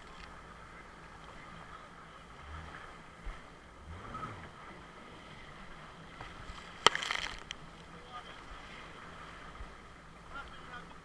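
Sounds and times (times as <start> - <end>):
jet ski engine running: 0.0 - 11.0
rushing water: 0.0 - 11.0.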